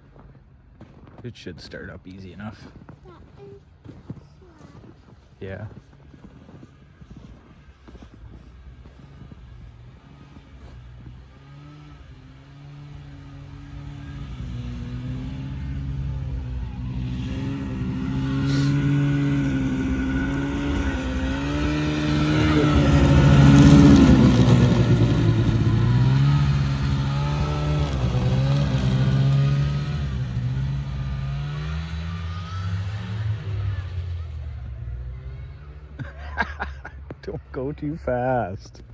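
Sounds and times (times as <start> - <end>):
snowmobile engine running: 1.0 - 38.9.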